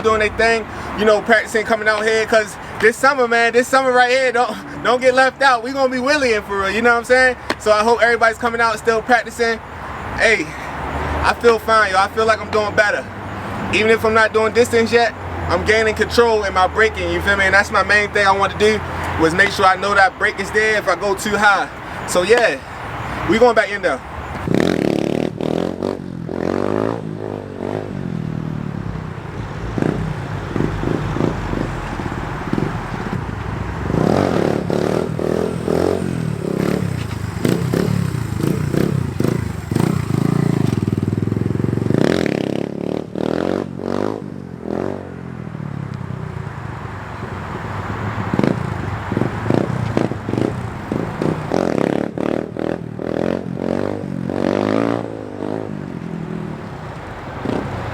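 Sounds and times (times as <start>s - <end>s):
dirt bike engine revving: 0.0s - 45.1s, 47.8s - 55.8s, 57.2s - 57.9s.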